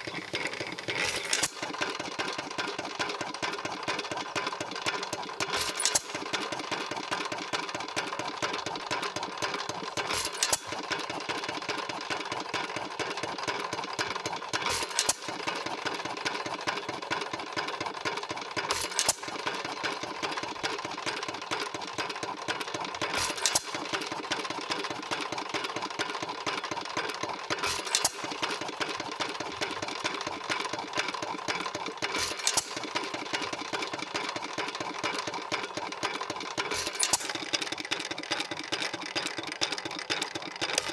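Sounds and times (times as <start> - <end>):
engine mechanical clatter: 0.0 - 40.9.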